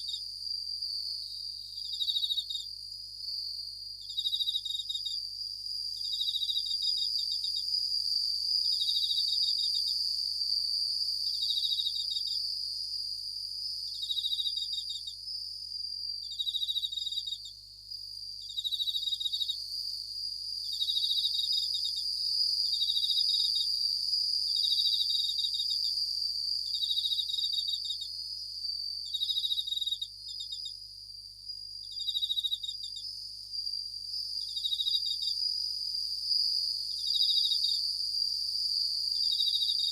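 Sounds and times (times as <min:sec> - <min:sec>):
cricket chirps: 0:00.0 - 0:39.9
steady insect ringing: 0:00.0 - 0:39.9.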